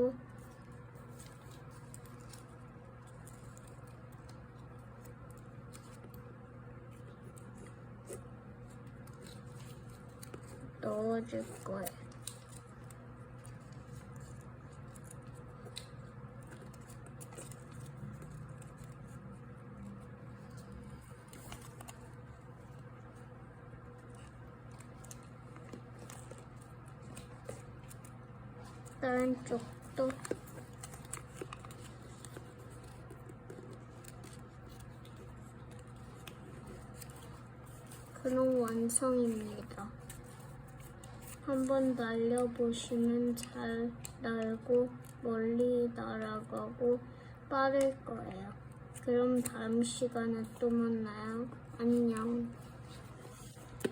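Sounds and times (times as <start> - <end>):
soft paper ticks: 0.0 - 6.3, 6.9 - 23.2, 23.9 - 46.8, 47.6 - 53.9
paper handling: 0.0 - 46.6, 48.9 - 53.9
steady low hum: 0.0 - 53.9.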